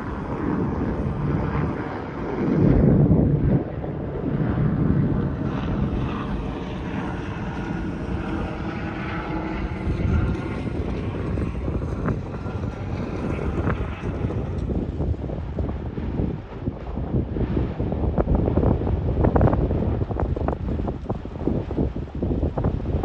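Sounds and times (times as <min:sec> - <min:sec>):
aircraft engine drone: 0:00.0 - 0:23.0
wind buffeting microphone: 0:00.0 - 0:23.0.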